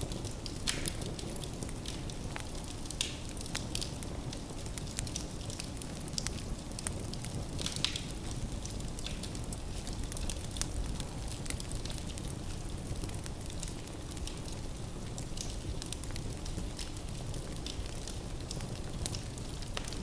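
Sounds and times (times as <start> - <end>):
logs crackling and popping: 0.0 - 20.0.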